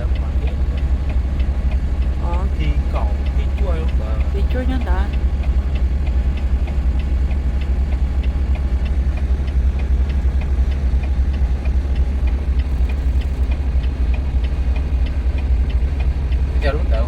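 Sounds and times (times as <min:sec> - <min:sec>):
diesel truck engine idling: 0:00.0 - 0:17.0
light regular ticking: 0:00.0 - 0:17.0.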